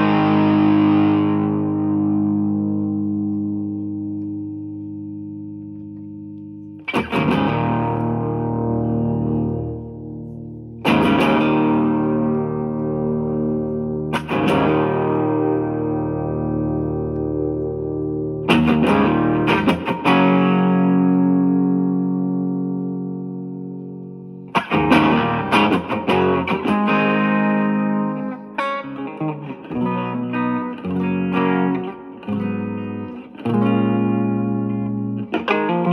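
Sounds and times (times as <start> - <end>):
electric guitar chords strummed: 0.0 - 35.9.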